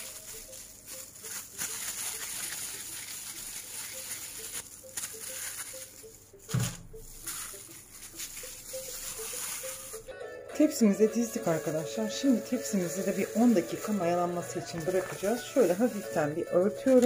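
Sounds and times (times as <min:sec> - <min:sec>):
gloved hands rustling dough: 0:00.0 - 0:17.0.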